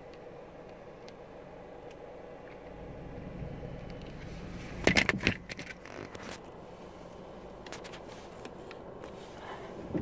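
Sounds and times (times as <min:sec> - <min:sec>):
car cabin hum: 0:00.0 - 0:10.0.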